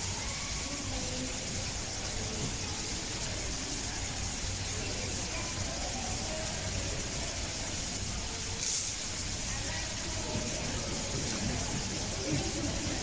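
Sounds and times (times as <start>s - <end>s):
background hiss: 0.0s - 13.0s
faint distant voices: 0.0s - 13.0s.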